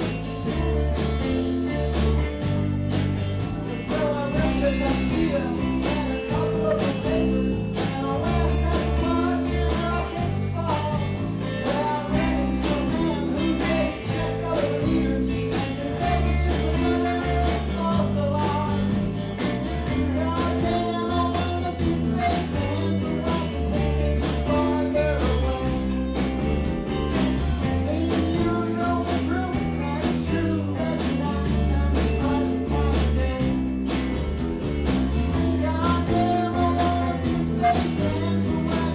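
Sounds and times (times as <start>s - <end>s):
bass guitar: 0.0s - 38.9s
drums keeping a steady beat: 0.0s - 38.9s
electric guitars: 0.0s - 38.9s
person singing: 3.6s - 38.9s.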